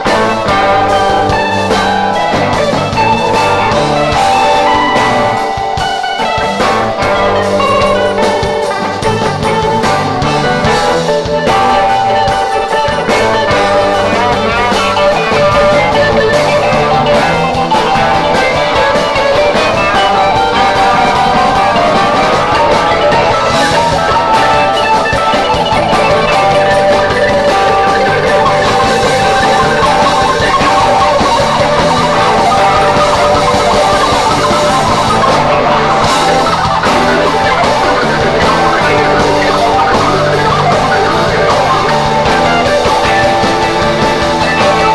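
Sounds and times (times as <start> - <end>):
bass: 0.0 - 44.9
drum kit: 0.0 - 44.9
electric guitar: 0.0 - 44.9.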